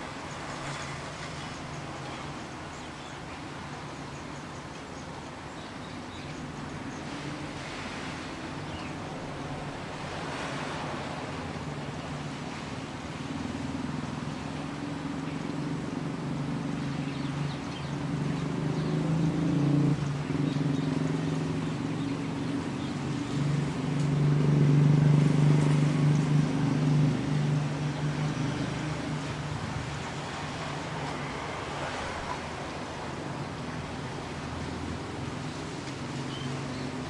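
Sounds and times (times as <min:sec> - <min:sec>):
low engine hum: 0:00.0 - 0:37.0.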